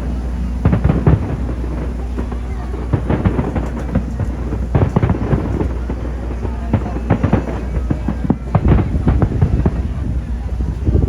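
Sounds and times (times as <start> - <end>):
fireworks bangs: 0.0 - 11.0
low rumble: 0.0 - 11.0.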